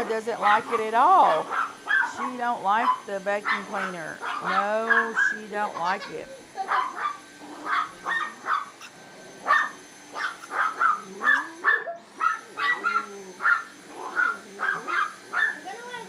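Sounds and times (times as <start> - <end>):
vacuum cleaner motor whine: 0.0 - 16.0
small dog barking and yapping: 0.4 - 16.0.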